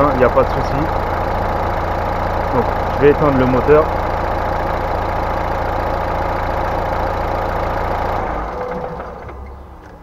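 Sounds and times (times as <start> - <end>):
car engine idling then stopping: 0.0 - 10.0.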